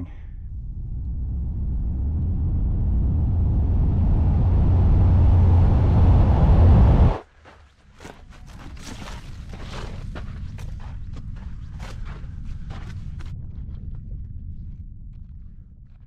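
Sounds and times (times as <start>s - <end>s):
deep low rumble: 0.0s - 7.2s, 8.0s - 16.0s.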